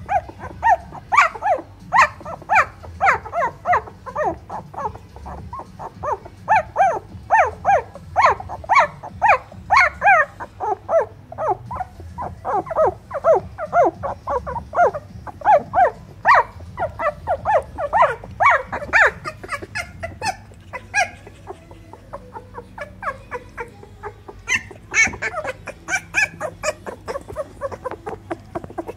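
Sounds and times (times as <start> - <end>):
puppies squealing and whimpering: 0.0 - 28.9.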